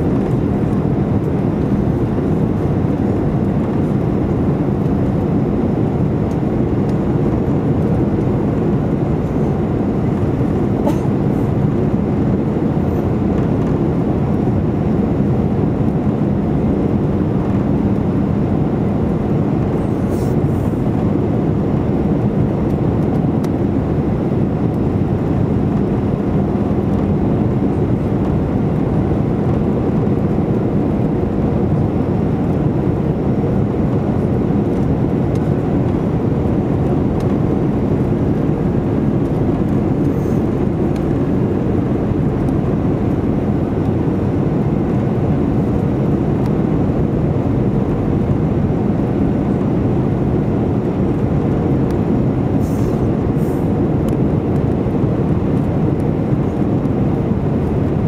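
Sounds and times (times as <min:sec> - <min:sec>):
engine and airflow rush: 0:00.0 - 0:58.0.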